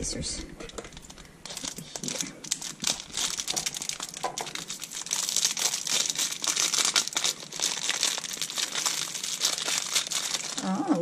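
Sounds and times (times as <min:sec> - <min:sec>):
plastic packaging crinkling and tearing: 0:00.7 - 0:11.0.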